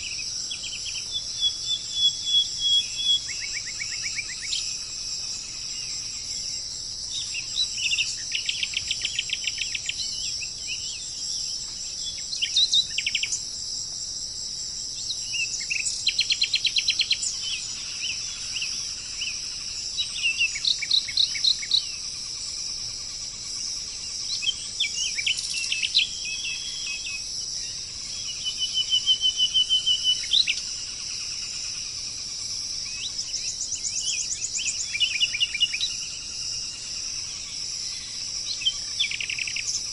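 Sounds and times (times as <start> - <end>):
birds singing: 0.0 - 14.0, 14.7 - 39.9
insects chirping: 0.0 - 39.9.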